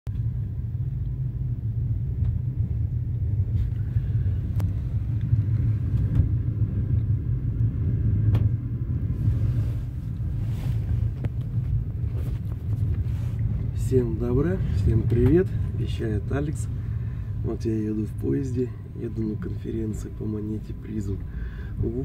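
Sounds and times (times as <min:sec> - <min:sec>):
low rumble of moving train: 0:00.1 - 0:22.0.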